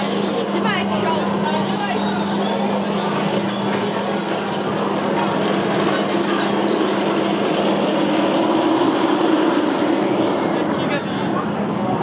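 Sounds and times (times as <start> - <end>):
roller coaster wheels rumbling on rails: 0.0 - 12.0.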